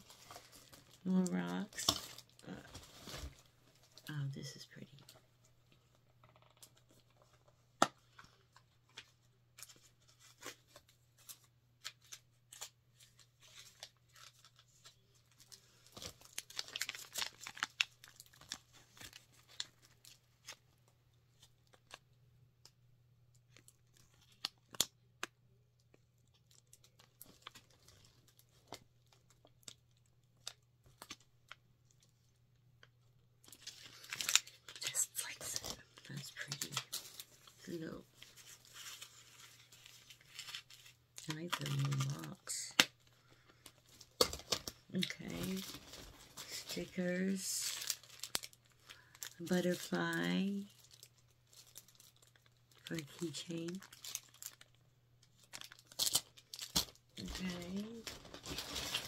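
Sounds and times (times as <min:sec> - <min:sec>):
plastic bag crinkling and tearing: 0:00.0 - 0:05.2, 0:08.0 - 0:20.7, 0:25.9 - 0:31.3, 0:33.4 - 0:59.0.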